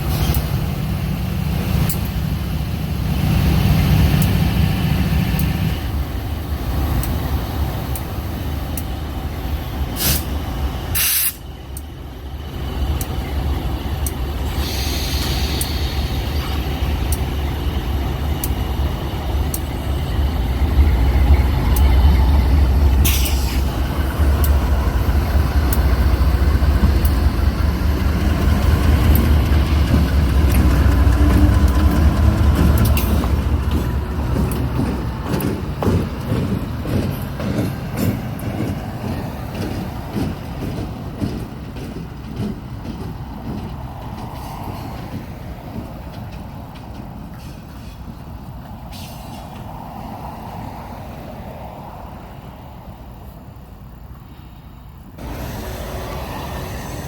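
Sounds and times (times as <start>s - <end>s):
train wheels clacking over rail joints: 0.0s - 49.8s
diesel locomotive engine rumble: 0.0s - 57.0s.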